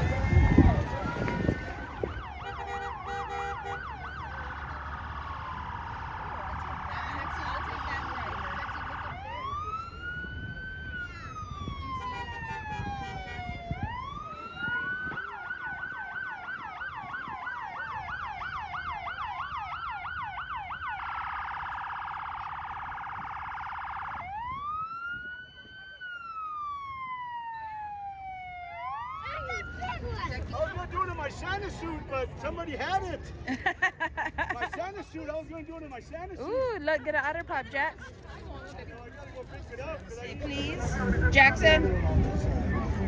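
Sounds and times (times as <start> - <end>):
emergency vehicle siren: 0.0 - 33.0, 39.4 - 43.0.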